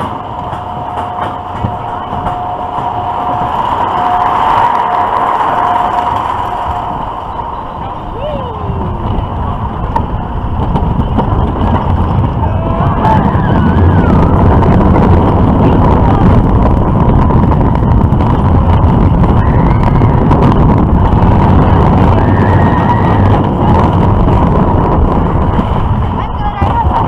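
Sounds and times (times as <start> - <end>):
roller coaster wheels rumbling: 0.0 - 27.0
wind on microphone: 0.0 - 27.0.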